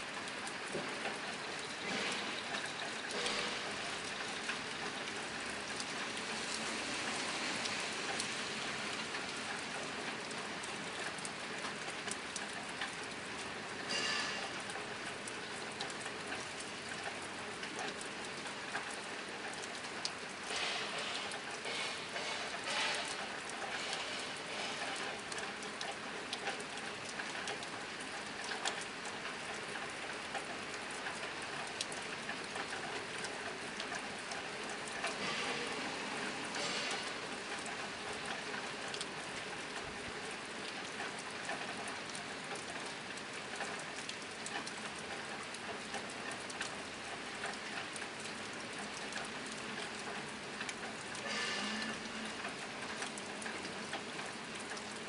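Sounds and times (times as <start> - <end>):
rain on a tin roof: 0.0 - 55.0
drips ticking: 0.1 - 55.0.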